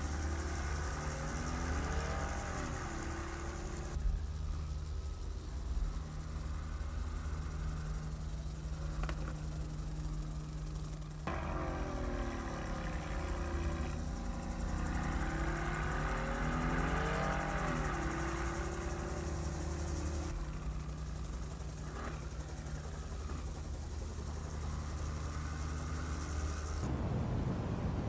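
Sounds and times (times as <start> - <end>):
car engine revving: 0.0 - 4.0, 4.6 - 26.9.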